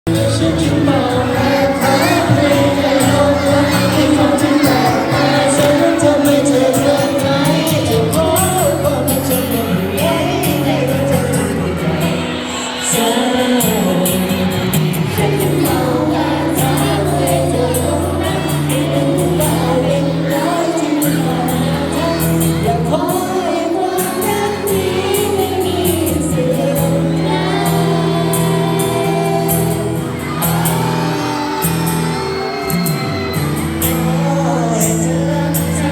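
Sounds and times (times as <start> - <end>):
person singing: 0.0 - 35.9.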